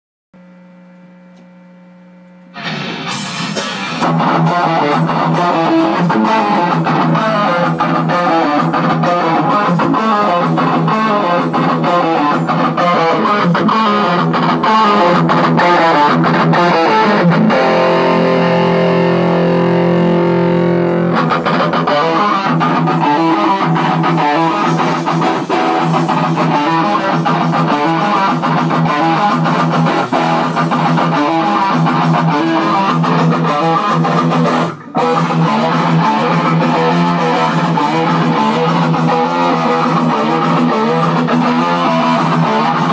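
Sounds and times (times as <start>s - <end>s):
electric guitar playing: 1.2s - 42.9s.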